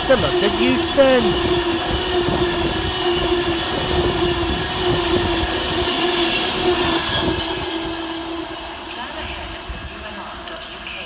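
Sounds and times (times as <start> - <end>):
electric train hum: 0.0 - 11.0.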